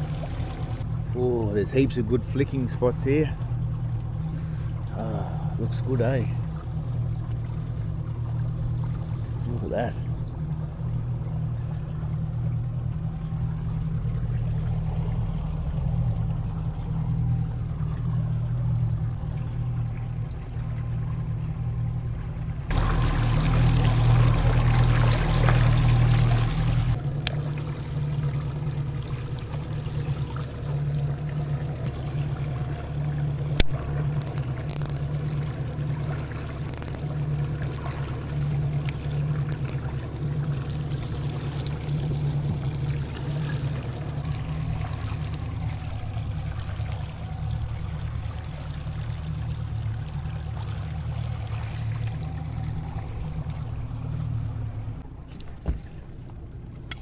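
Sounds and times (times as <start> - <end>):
outboard motor humming: 0.0 - 57.0
water rushing along hull: 0.0 - 57.0.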